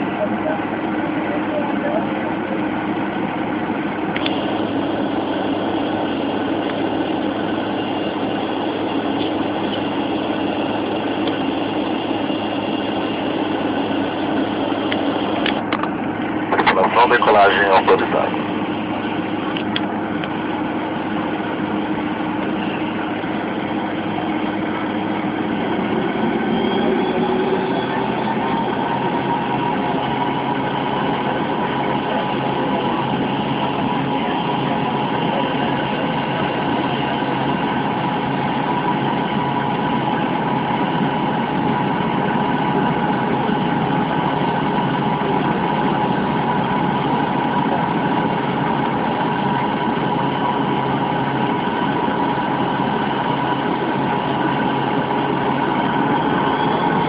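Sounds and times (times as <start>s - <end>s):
jet engines spooling up: 2.4s - 57.0s.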